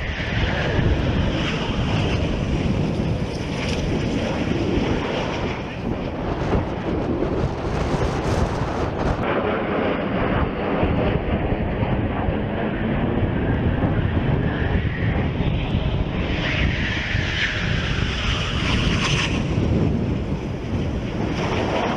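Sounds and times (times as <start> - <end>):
fighter jet engines at takeoff: 0.0 - 21.9.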